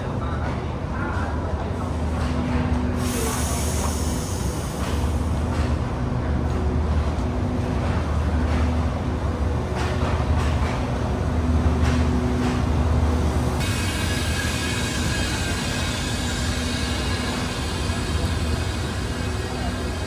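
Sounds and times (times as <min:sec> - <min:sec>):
diesel train engine droning: 0:00.0 - 0:20.0.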